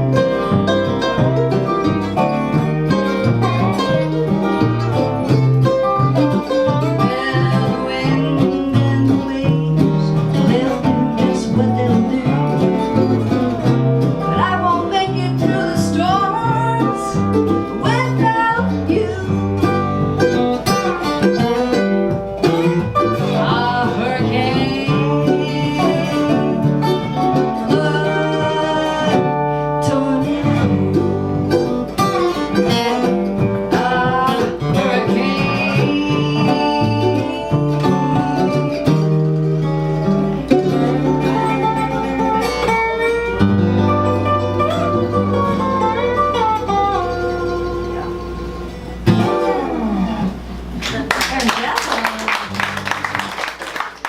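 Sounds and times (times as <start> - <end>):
acoustic country music: 0.0 - 54.0.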